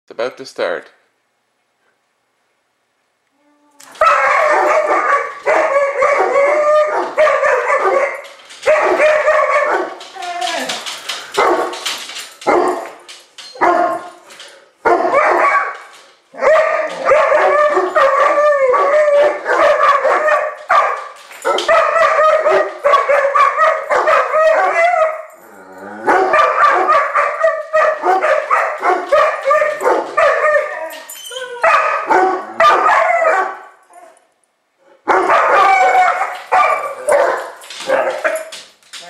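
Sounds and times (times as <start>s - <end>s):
dogs howling and barking: 4.0s - 14.2s, 14.8s - 34.2s, 35.0s - 38.7s.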